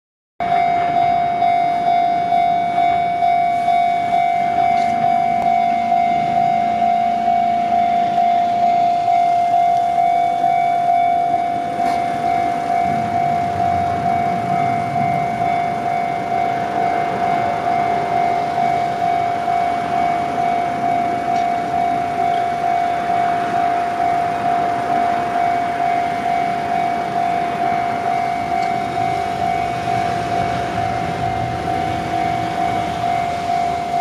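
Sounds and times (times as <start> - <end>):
level crossing warning bell: 0.4 - 34.0
small truck engine: 0.4 - 34.0.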